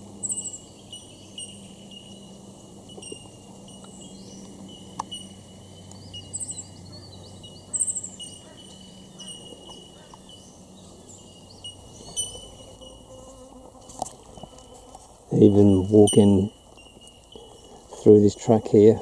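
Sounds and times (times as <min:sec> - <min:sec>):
high bird trills: 0:00.0 - 0:19.0
small birds chirping: 0:00.0 - 0:19.0.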